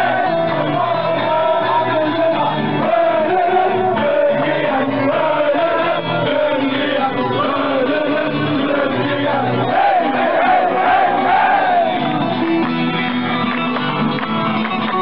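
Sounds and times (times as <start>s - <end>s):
crowd singing and shouting: 0.0s - 15.0s
music: 0.0s - 15.0s.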